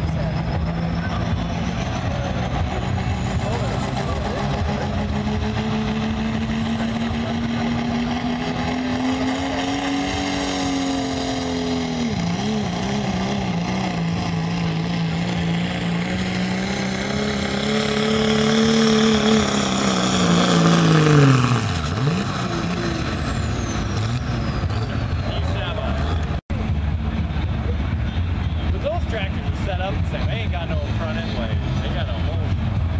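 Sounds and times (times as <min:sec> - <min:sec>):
diesel engine at high revs: 0:00.0 - 0:32.9.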